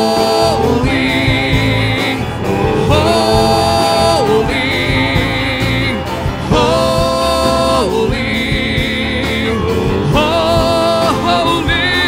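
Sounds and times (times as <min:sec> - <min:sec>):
acoustic guitar: 0:00.0 - 0:12.0
keyboard: 0:00.0 - 0:12.0
people singing: 0:00.0 - 0:12.0.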